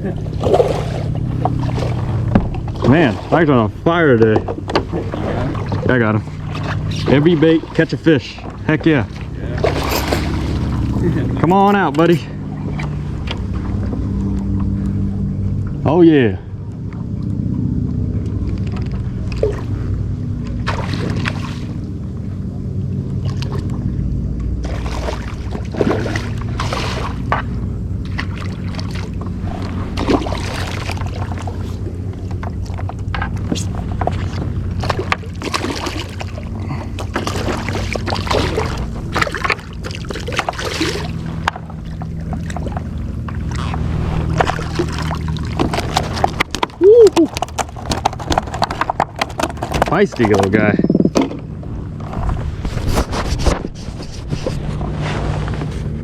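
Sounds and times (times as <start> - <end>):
water splashing around kayak: 0.0 - 15.9, 16.6 - 56.0
low rumble: 0.0 - 56.0.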